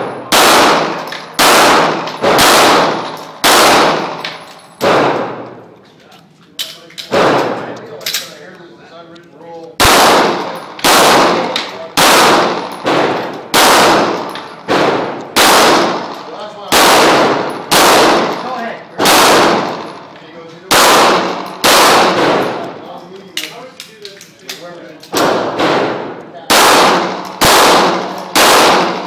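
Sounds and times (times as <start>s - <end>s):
pistol shots echoing indoors: 0.0s - 5.6s, 7.0s - 8.3s, 9.8s - 22.8s, 25.0s - 29.0s.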